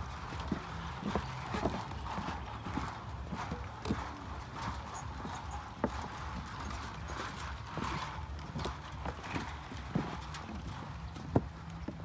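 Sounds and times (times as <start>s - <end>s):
footsteps on wooden planks: 0.0s - 12.0s.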